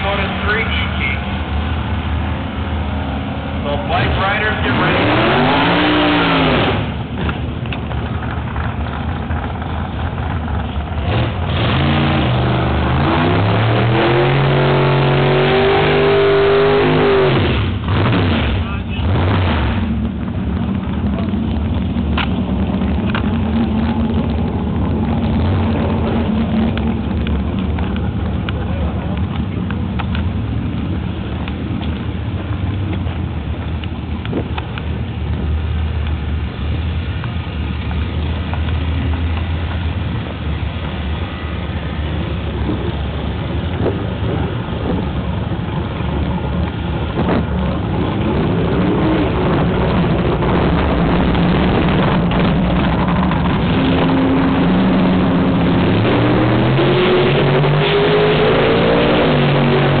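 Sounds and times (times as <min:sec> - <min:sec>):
car engine idling and revving: 0:00.0 - 1:00.0.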